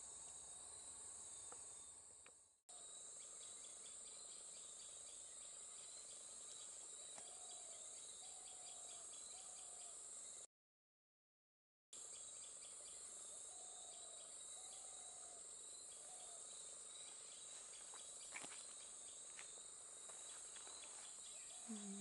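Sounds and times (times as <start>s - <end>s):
high-pitched insect chorus: 0.0s - 10.5s, 12.0s - 22.0s.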